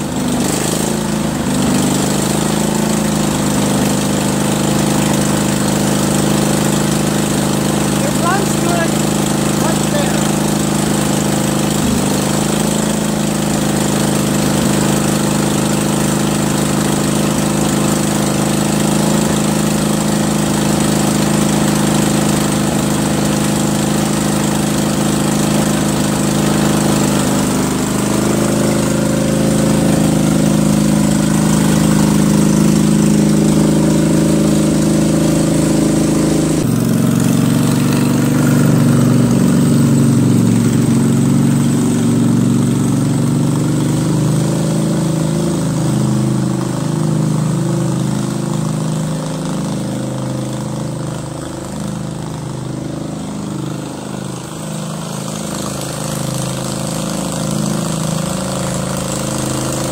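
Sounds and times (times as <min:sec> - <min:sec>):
lawn tractor engine surging: 0:00.0 - 0:59.9.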